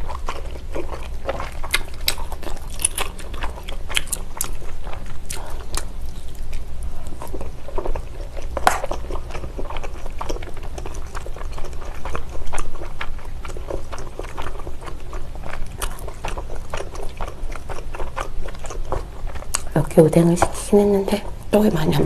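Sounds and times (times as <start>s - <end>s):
person chewing wet food: 0.0s - 20.5s.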